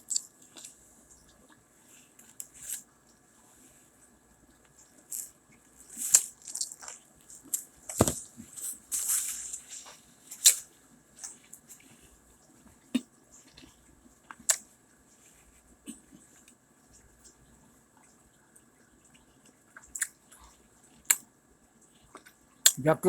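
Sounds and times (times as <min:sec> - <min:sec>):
crunching and chewing: 0:00.0 - 0:22.8.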